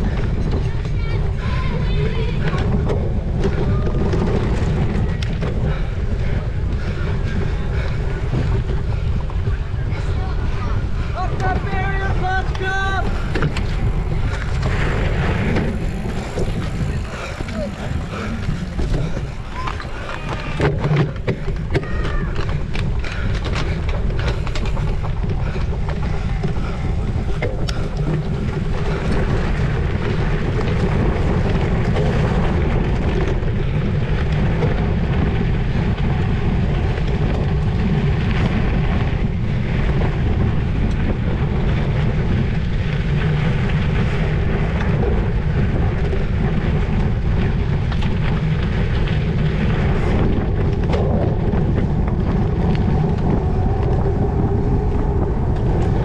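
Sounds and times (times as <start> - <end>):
bike rattles and knocks: 0.0 - 56.0
wind rushing over microphone: 0.0 - 56.0.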